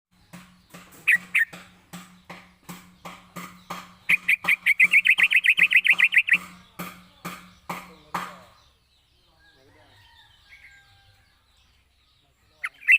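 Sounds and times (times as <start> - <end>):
bird song with rolling trill: 0.1 - 12.9.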